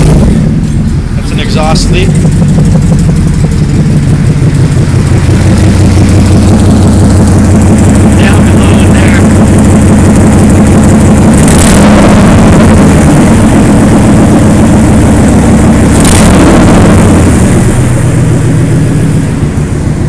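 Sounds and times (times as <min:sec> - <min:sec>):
car engine with exhaust leak: 0:00.0 - 0:20.0.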